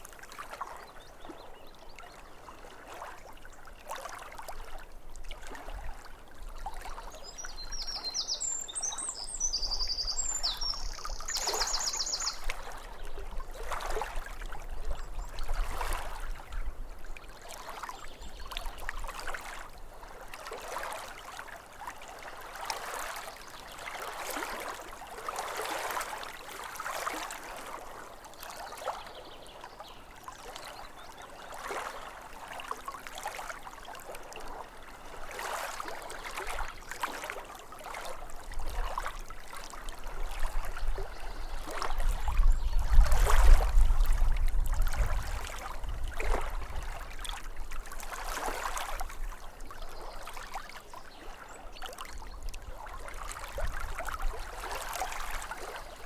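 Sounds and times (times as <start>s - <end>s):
waves lapping at shore: 0.0s - 56.0s.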